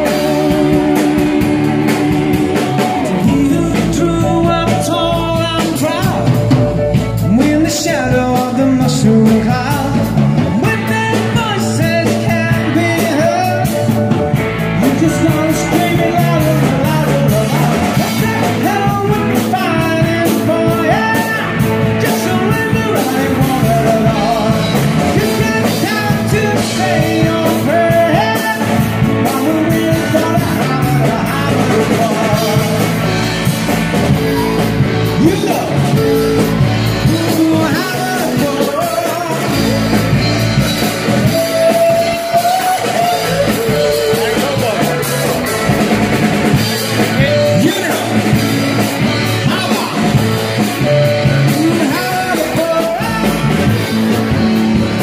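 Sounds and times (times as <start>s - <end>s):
man singing into a microphone: 0.0s - 33.5s, 34.1s - 45.6s, 46.5s - 54.6s
electric guitars: 0.0s - 55.0s.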